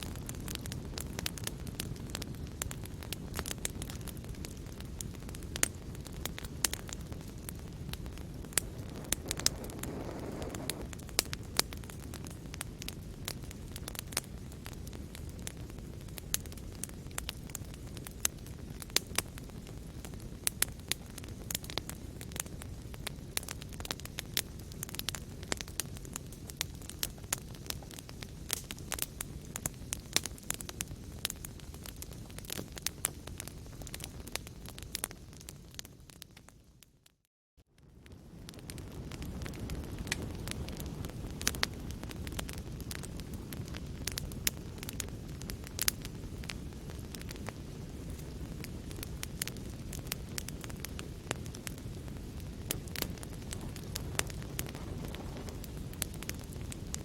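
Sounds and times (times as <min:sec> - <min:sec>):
fire burning in a fireplace: 0:00.0 - 0:57.0
fire crackling and popping: 0:00.0 - 0:57.0.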